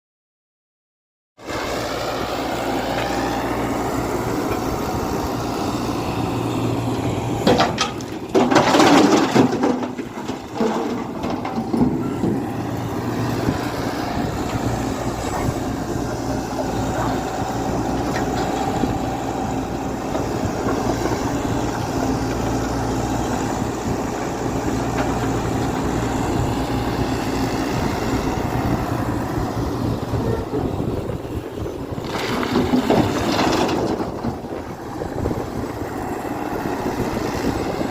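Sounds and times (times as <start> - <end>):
excavator diesel engine running: 1.4 - 37.9.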